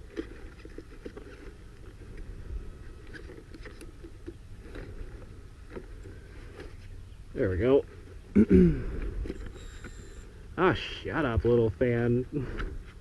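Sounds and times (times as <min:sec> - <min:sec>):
small cooling fan whine: 0:00.0 - 0:13.0.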